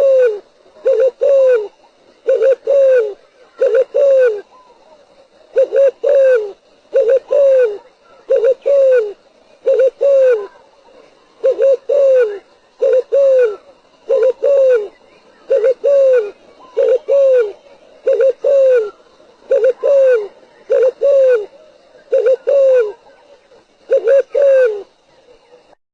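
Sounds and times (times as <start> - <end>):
dove cooing: 0.0 - 25.8.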